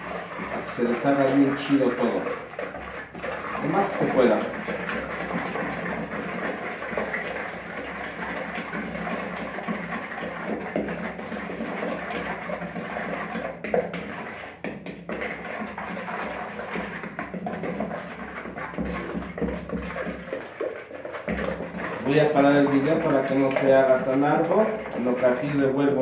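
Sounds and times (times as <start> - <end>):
utensil stirring in a bowl: 0.0 - 26.0.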